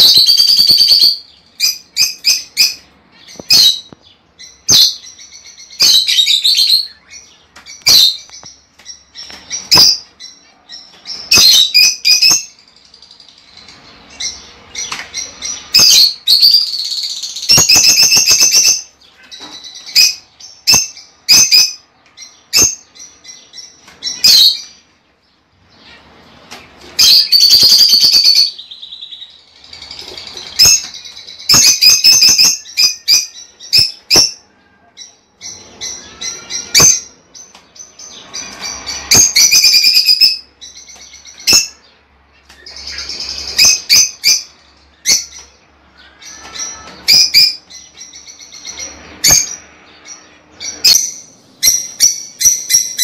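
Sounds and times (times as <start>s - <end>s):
birds chirping and squeaking: 0.0s - 53.0s.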